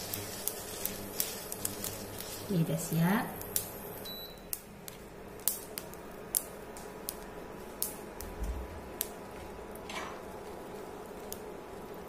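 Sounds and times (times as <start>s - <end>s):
spices crackling in a hot pan: 0.0s - 12.0s.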